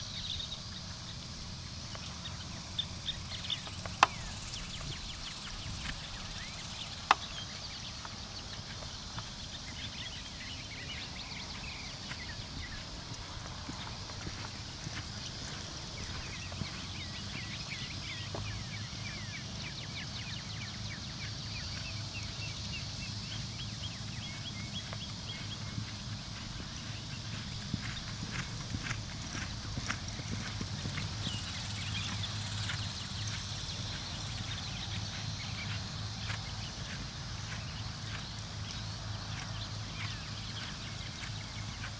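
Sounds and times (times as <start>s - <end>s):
horse hoofbeats on dirt: 0.1s - 41.9s.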